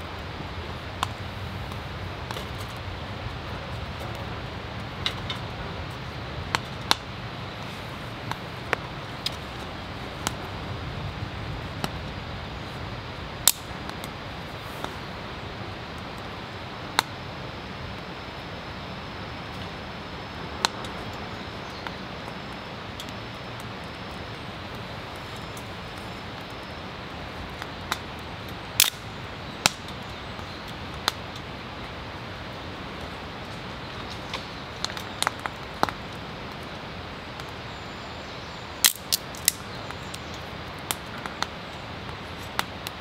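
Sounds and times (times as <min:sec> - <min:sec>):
burning wood snapping and popping: 0:00.0 - 0:17.2, 0:20.5 - 0:37.7, 0:38.7 - 0:43.0
fire hissing: 0:00.0 - 0:43.0.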